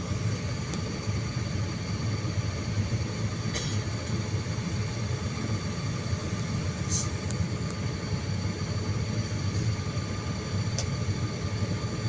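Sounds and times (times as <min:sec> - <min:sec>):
airliner cabin rumble: 0:00.0 - 0:12.0
engine whine: 0:00.0 - 0:12.0.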